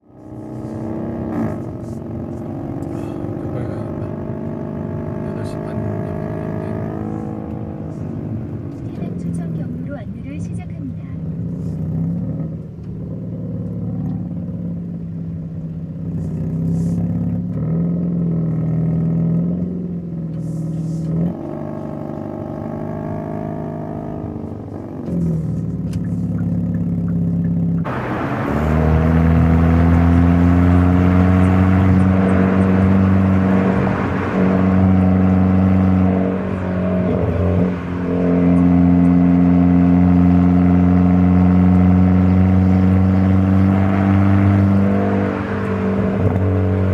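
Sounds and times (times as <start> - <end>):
car engine and exhaust: 0.0 - 46.9.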